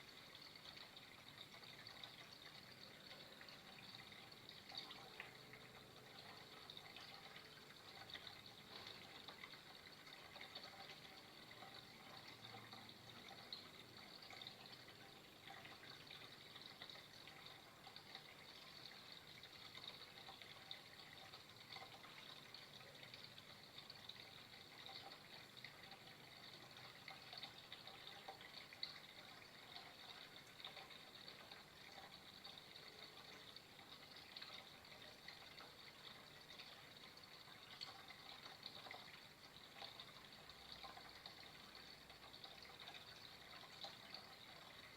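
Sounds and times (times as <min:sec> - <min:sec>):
water flowing and trickling: 0:00.0 - 0:44.9.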